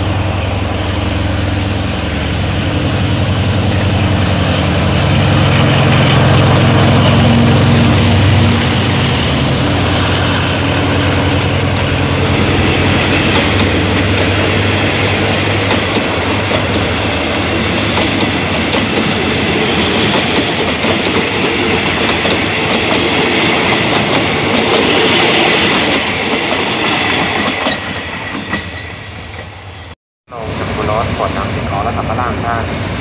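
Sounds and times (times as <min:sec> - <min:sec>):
diesel locomotive engine drone: 0:00.0 - 0:33.0
train wheels rushing on rails: 0:00.0 - 0:33.0.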